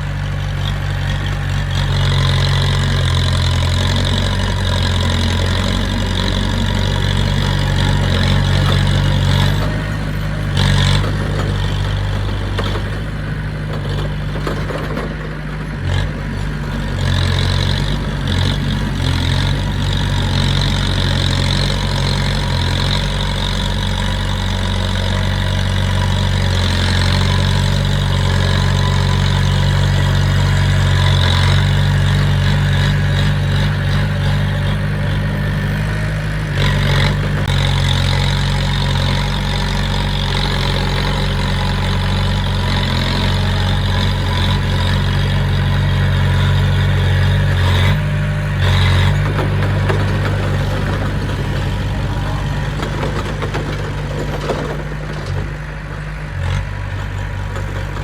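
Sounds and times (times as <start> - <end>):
diesel engine running: 0.0 - 58.0
metal clanks and knocks: 1.9 - 35.0, 36.6 - 58.0.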